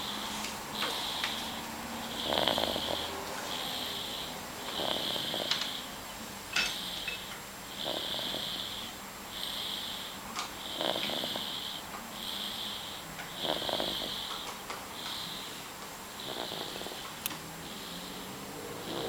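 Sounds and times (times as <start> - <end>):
fast hissy snoring: 0.0 - 19.0.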